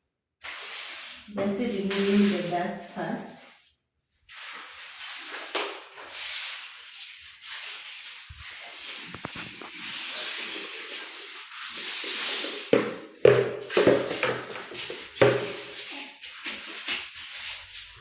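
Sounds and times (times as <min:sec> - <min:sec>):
broom sweeping floor: 0:00.4 - 0:18.0.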